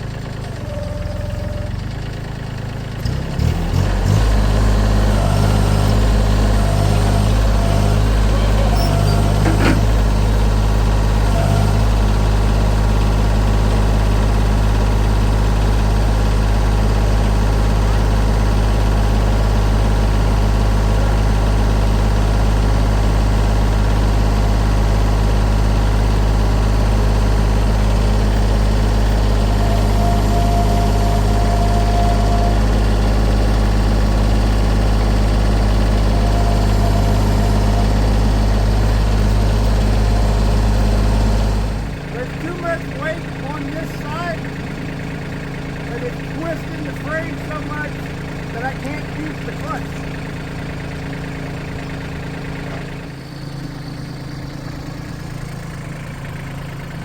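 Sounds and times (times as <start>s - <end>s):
engine running at high speed: 2.9s - 57.0s.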